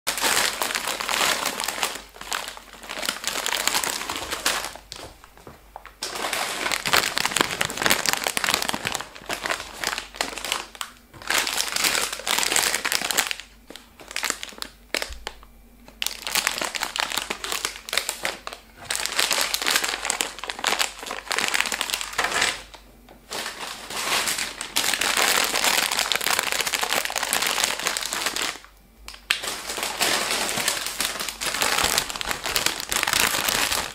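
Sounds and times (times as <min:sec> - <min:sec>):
snack bags crinkling: 0:00.1 - 0:33.9.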